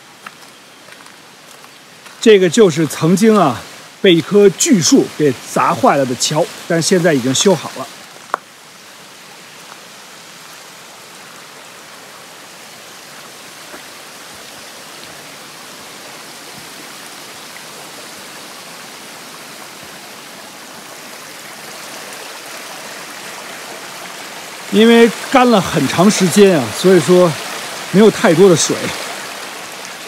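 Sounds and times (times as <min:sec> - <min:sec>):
creek running over stones: 0:00.0 - 0:30.0.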